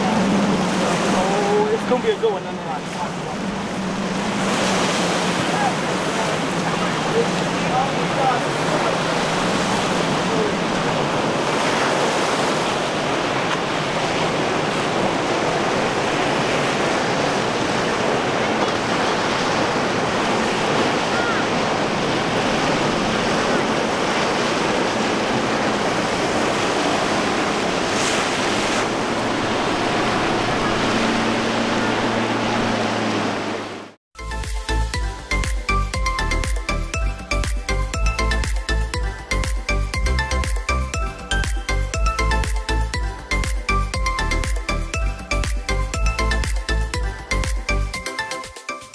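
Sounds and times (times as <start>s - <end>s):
outboard motor hum: 0.0s - 48.2s
waves and surf: 0.0s - 48.9s.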